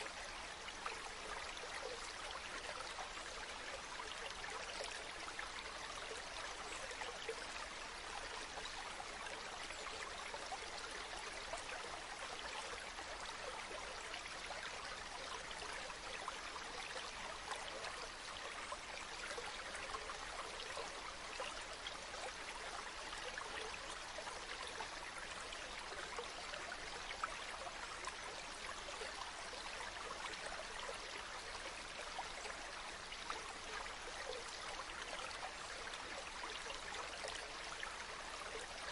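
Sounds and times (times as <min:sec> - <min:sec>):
stream of water running: 0:00.0 - 0:38.9.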